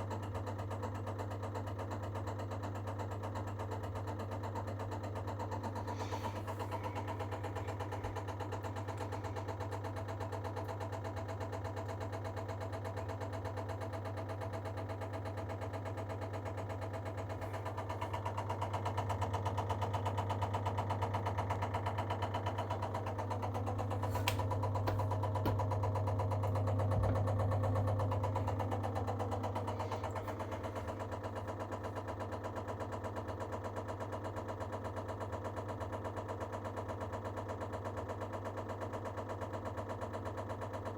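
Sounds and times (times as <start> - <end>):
boiler humming: 3.4 - 36.3.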